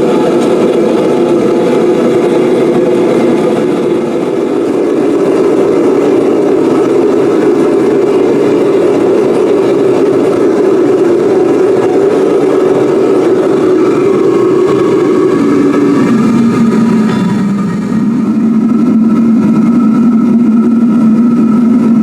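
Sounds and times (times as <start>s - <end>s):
furnace burner roaring: 0.0s - 22.0s.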